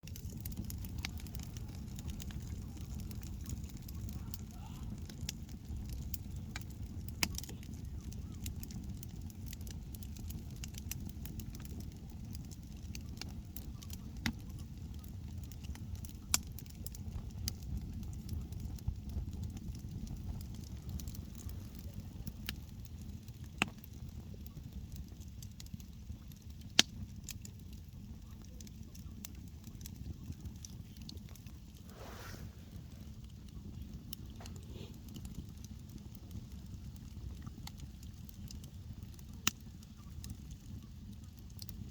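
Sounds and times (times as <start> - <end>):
campfire crackling and popping: 0.0 - 41.9
low fire rumble: 0.0 - 41.9.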